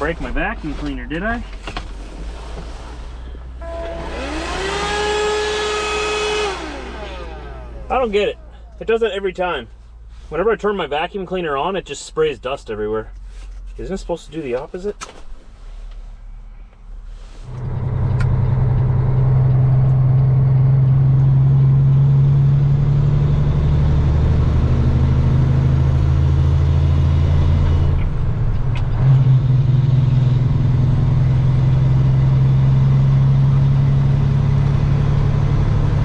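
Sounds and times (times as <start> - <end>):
truck engine and road drone: 0.0 - 36.0.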